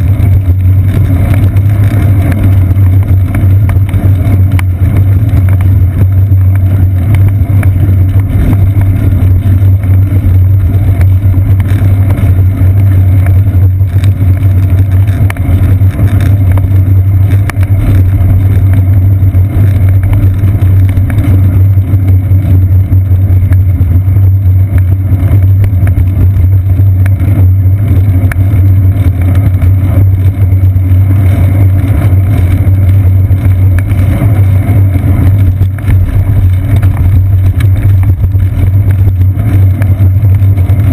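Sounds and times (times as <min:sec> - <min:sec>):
bicycle rolling rumble: 0:00.0 - 0:40.9.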